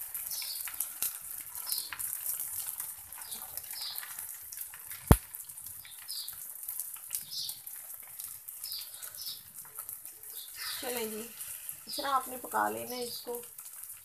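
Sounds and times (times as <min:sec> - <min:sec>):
omelette sizzling in oil: 0:00.0 - 0:14.0.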